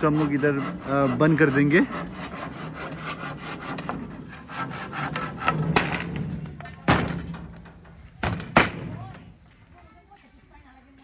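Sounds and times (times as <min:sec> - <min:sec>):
wood scraping on metal rack: 0:00.0 - 0:09.2.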